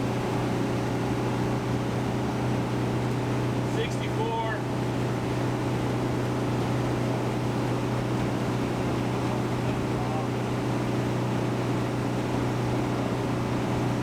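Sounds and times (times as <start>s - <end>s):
engine drone inside vehicle: 0.0s - 14.0s.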